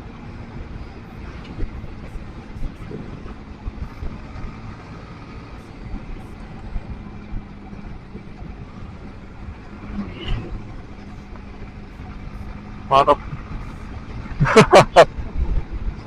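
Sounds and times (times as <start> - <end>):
motorcycle engine running: 0.0 - 16.0
wind and road rumble: 0.0 - 16.0.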